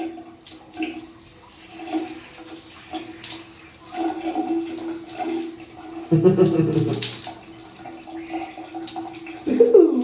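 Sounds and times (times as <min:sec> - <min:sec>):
shower water spattering: 0:00.0 - 0:10.0.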